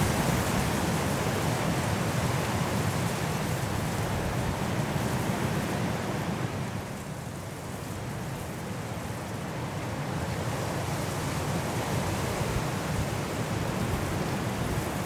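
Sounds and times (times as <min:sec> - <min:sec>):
high wind through trees: 0:00.0 - 0:15.0.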